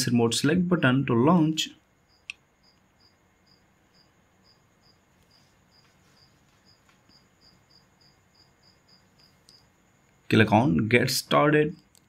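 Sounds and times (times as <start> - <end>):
cricket chirping: 0.1 - 12.0.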